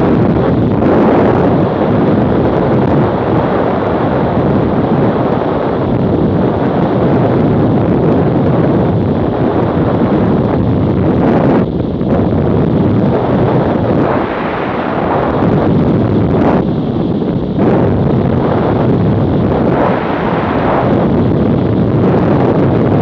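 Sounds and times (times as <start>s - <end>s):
wind rushing on microphone: 0.0s - 23.0s.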